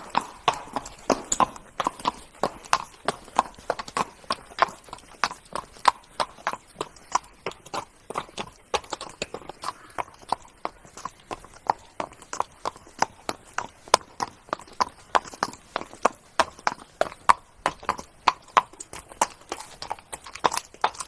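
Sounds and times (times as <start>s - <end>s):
horse hooves trotting: 0.0s - 21.0s.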